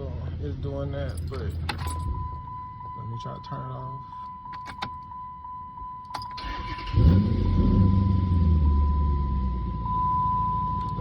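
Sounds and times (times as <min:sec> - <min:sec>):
car engine starting and idling: 0:00.0 - 0:11.0.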